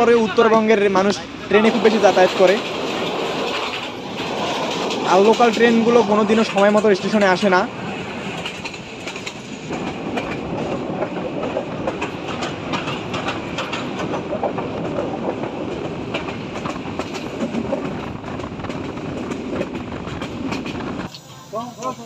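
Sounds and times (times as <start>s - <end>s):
train coaches rumbling: 0.0s - 22.0s
wheels clattering over rail joints: 1.5s - 21.1s.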